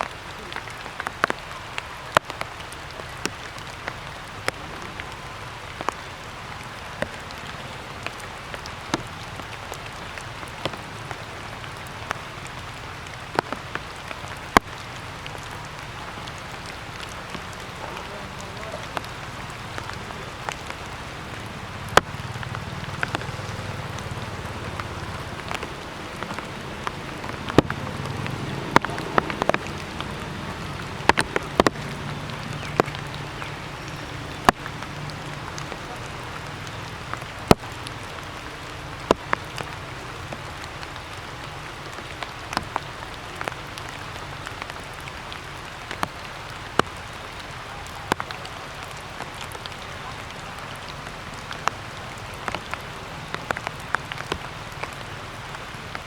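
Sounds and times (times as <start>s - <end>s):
water drops dripping: 0.0s - 56.0s.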